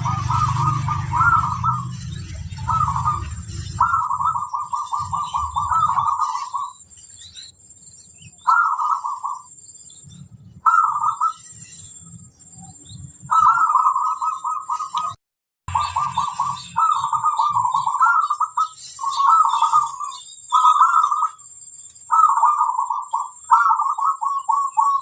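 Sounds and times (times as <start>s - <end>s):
dove cooing in trills: 0.0s - 6.8s, 8.4s - 9.5s, 10.5s - 11.8s, 12.8s - 21.4s, 22.1s - 25.0s.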